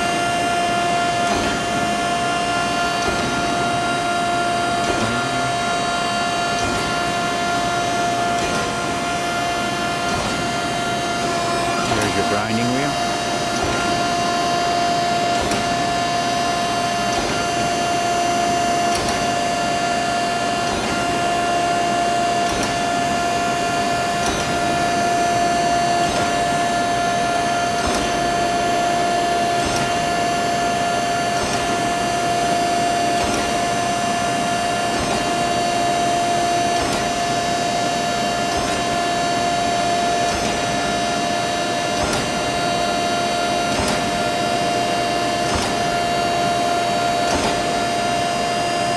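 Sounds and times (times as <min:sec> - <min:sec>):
grinding wheel whine: 0:00.0 - 0:48.9.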